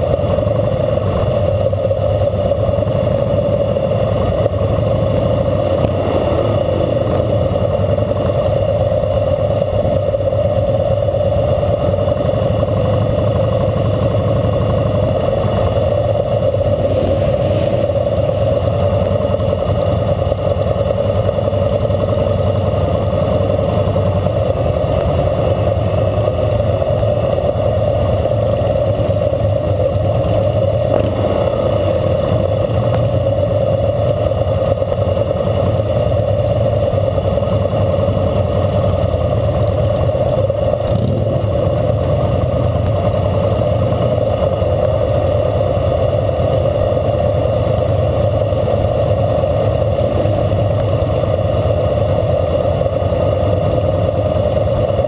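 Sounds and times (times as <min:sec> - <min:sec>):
motorcycle engine running: 0:00.0 - 0:55.0
other motorcycles riding: 0:00.0 - 0:55.0.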